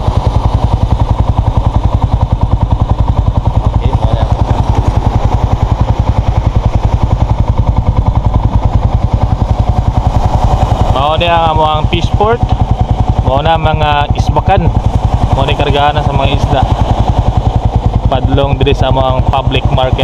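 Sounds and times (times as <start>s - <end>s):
small motorcycle engine idling: 0.0s - 20.0s.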